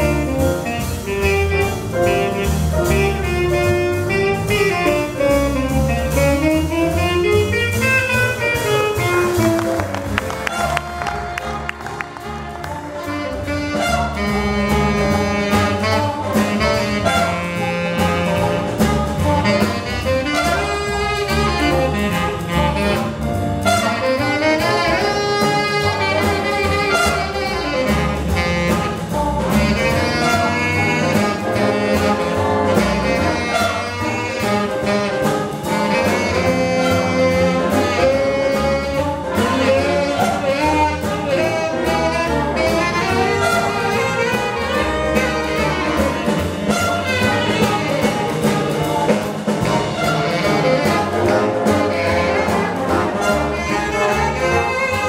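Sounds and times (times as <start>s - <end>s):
jazz big band swing: 0.0s - 55.0s
tenor saxophone solo: 0.0s - 55.0s.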